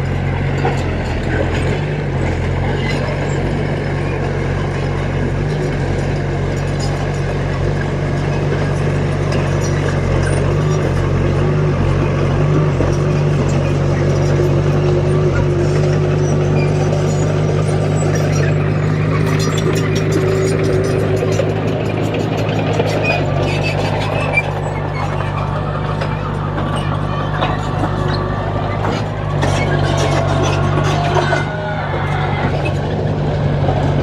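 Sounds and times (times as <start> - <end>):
rapid rattling clatter: 0.0 - 31.5
bulldozer diesel engine under load: 0.0 - 34.0.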